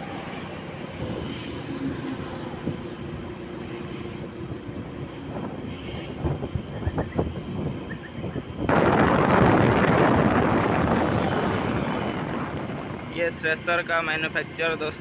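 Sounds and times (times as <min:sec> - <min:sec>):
wind buffets: 0:00.8 - 0:15.0
wind rushing over microphone: 0:00.9 - 0:15.0.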